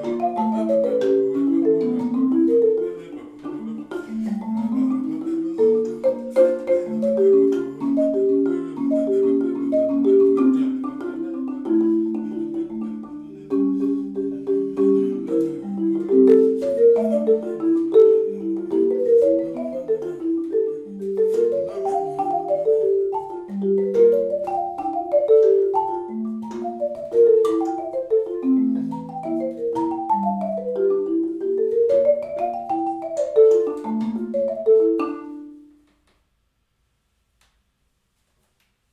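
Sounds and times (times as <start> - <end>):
solo marimba: 0.0 - 35.9.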